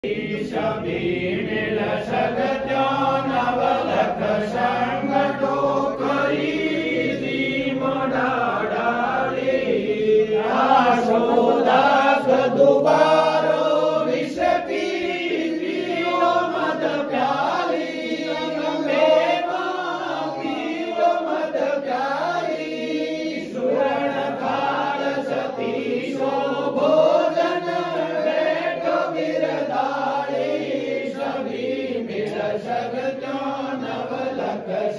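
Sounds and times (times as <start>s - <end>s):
voices singing a hymn: 0.0s - 34.9s.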